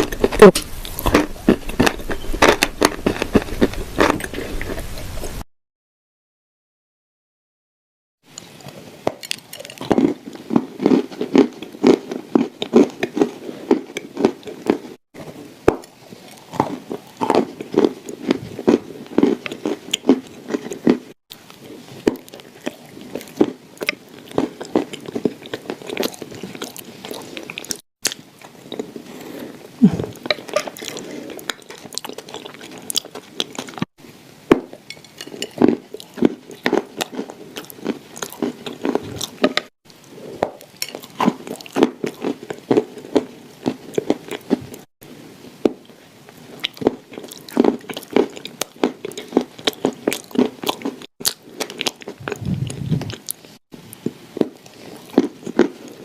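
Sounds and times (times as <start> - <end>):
person crunching cookies: 0.0 - 4.8, 9.1 - 33.9, 34.7 - 44.6, 45.8 - 56.0.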